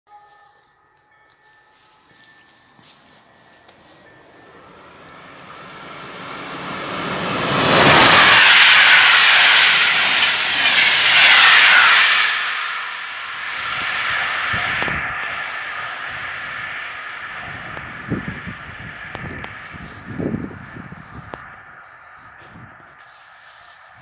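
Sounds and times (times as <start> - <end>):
express train passing: 0.1 - 24.0.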